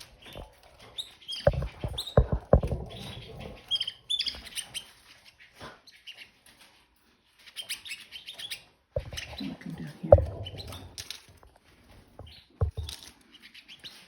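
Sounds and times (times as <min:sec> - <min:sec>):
canaries chirping: 0:00.0 - 0:11.2, 0:11.9 - 0:14.0
birds ticking and rustling in cage: 0:00.0 - 0:14.0.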